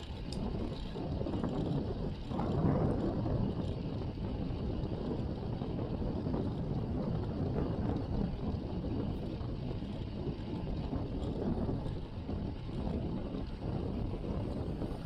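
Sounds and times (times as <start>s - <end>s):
road and tyre noise: 0.0s - 15.0s
wind rushing over microphone: 0.0s - 15.0s.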